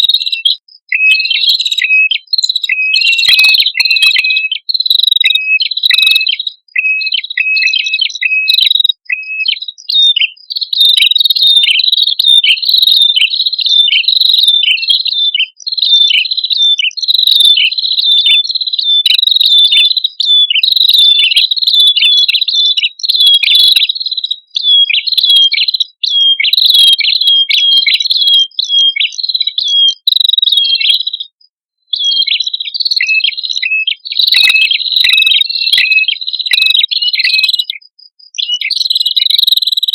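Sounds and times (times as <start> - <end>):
warbler chirping song: 0.0 - 39.9.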